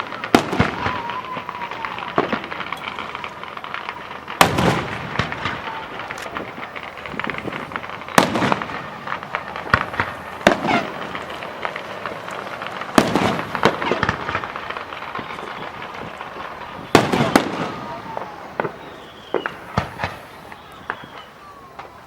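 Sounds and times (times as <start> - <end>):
fireworks crackling and pops: 0.0 - 22.0
fireworks loud bangs: 0.0 - 22.0.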